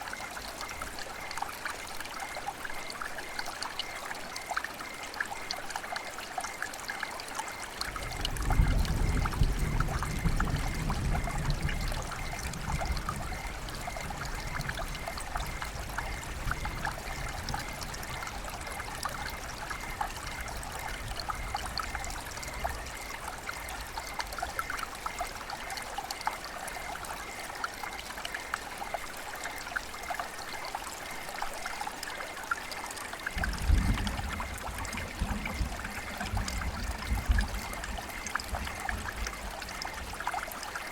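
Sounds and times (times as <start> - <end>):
river water flowing: 0.0 - 10.0, 11.9 - 40.9.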